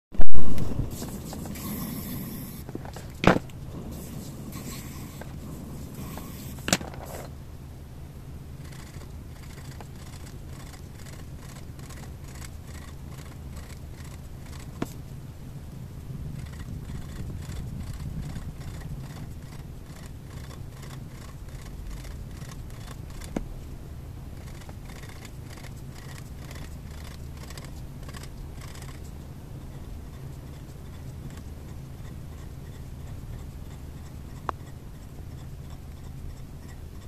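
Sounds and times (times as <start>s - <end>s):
marker pen scratching on paper: 0.2s - 7.4s, 8.6s - 15.1s, 16.4s - 23.6s, 24.4s - 37.0s
steady low hum: 0.2s - 37.0s.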